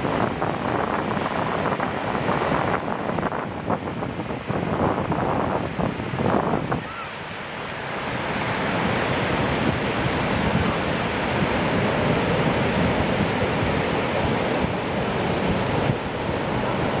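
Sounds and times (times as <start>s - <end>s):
ocean waves breaking on a beach: 0.0s - 17.0s.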